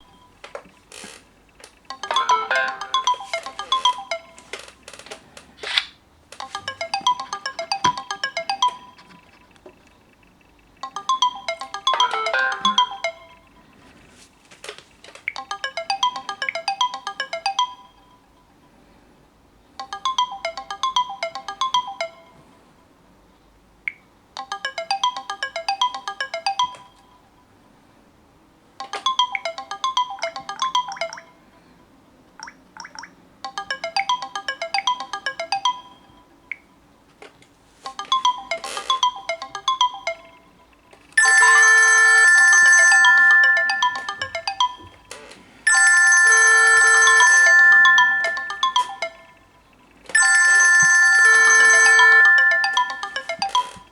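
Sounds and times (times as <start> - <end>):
melodic electronic ringtone: 0.0 - 0.6, 1.6 - 5.0, 6.4 - 14.3, 15.2 - 19.0, 19.8 - 22.6, 24.4 - 27.8, 28.8 - 37.0, 37.7 - 53.9
faint ringtone chimes: 0.0 - 0.9, 1.5 - 5.4, 6.4 - 14.3, 15.1 - 22.9, 24.4 - 28.0, 28.8 - 37.0, 37.7 - 53.9.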